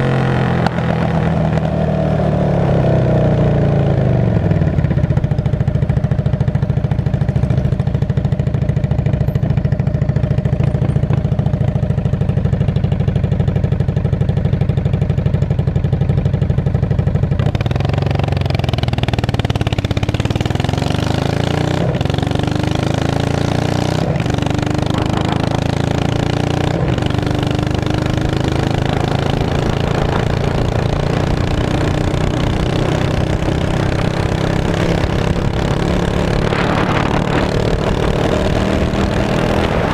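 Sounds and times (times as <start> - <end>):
motorcycle engine unmuffled exhaust: 0.0 - 39.9.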